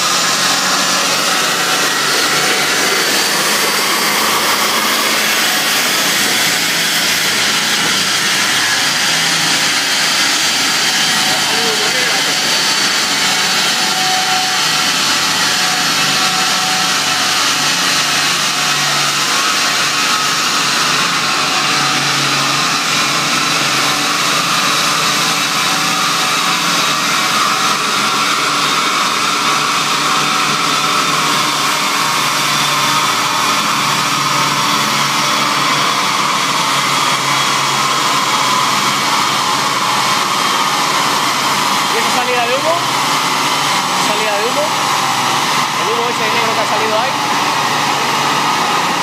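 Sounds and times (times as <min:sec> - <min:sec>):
car engine whirring on dynamometer: 0:00.0 - 0:49.0.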